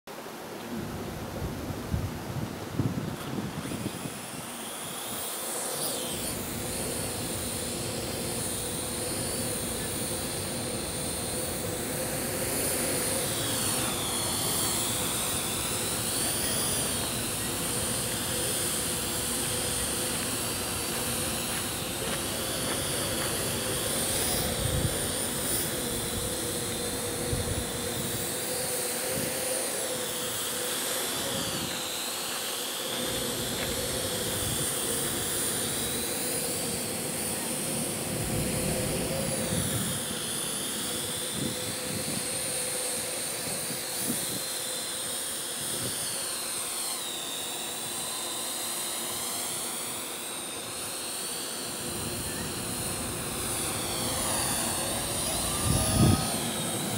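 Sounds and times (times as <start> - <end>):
wind on microphone: 0.7 - 5.3, 6.2 - 32.0, 32.9 - 44.5, 51.8 - 56.9
drone propellers whining: 0.7 - 56.9.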